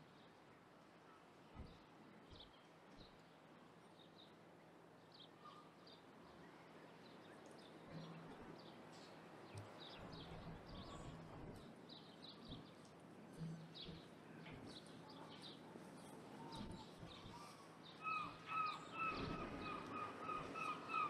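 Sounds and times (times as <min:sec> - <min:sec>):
small birds chirping: 0:01.1 - 0:21.0.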